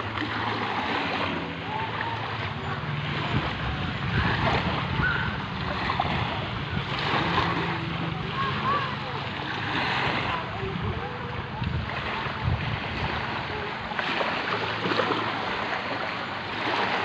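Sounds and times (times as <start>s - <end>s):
wind on microphone: 0.0s - 15.9s
distant motor hum: 0.0s - 17.0s
water washing at shore: 0.0s - 17.0s.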